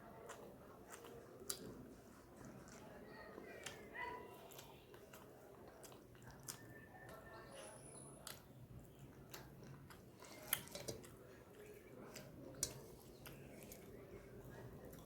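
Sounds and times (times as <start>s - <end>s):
person chewing: 0.0s - 7.2s, 8.2s - 15.0s.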